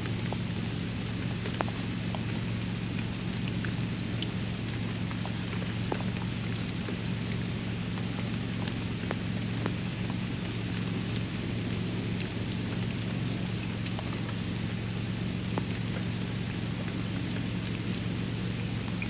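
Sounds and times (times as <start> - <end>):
rain falling on a pond: 0.0 - 19.0
steady low hum: 0.0 - 19.0.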